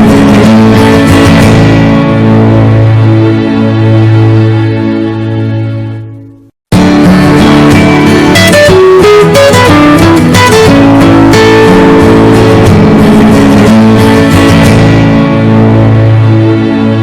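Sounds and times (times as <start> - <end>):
steady bass: 0.0 - 5.6, 6.7 - 17.0.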